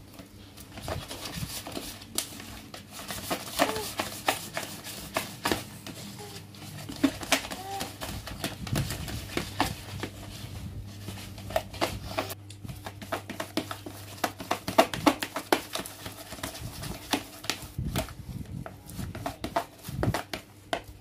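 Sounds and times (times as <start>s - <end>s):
low steady hum: 0.0s - 21.0s
mixing by hand in a bowl: 0.0s - 21.0s.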